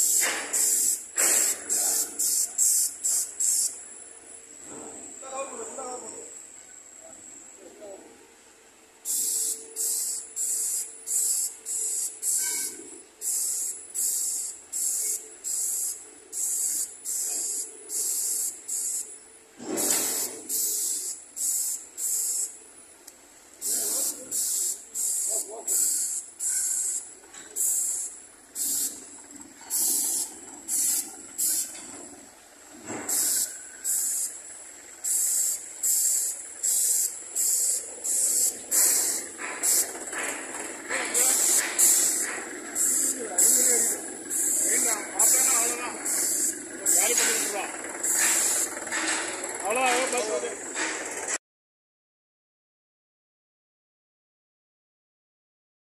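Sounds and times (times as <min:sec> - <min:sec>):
paint sprayer hissing: 0:00.0 - 0:06.8, 0:09.0 - 0:51.3.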